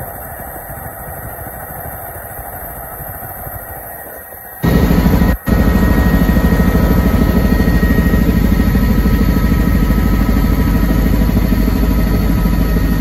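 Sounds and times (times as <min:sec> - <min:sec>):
helicopter cabin drone: 0:00.0 - 0:13.0
high turbine whine: 0:00.0 - 0:13.0.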